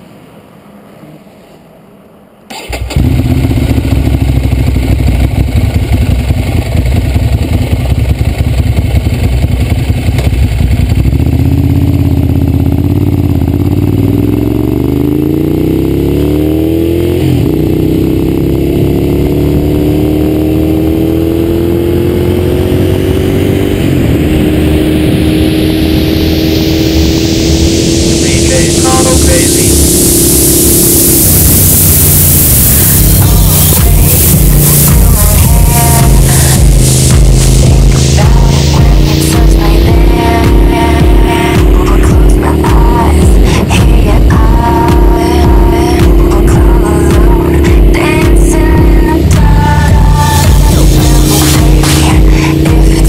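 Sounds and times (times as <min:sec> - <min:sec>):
motorcycle engine revving: 0:02.5 - 0:53.0.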